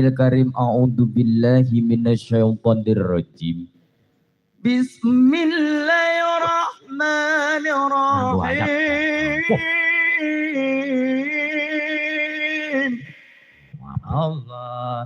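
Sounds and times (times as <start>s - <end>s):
man chanting recitation: 0.0s - 3.7s, 4.6s - 15.0s.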